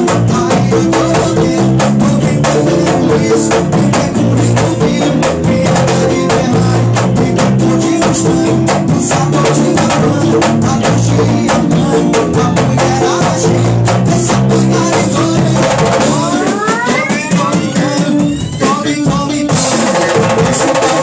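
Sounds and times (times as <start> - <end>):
drum kit beat: 0.0 - 21.0
guitar: 0.0 - 21.0.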